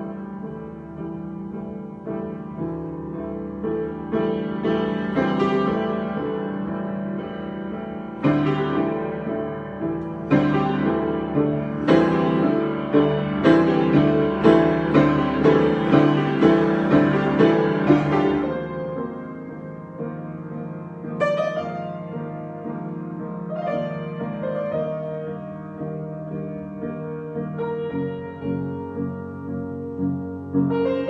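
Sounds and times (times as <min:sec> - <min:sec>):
solo piano chords: 0:00.0 - 0:31.0.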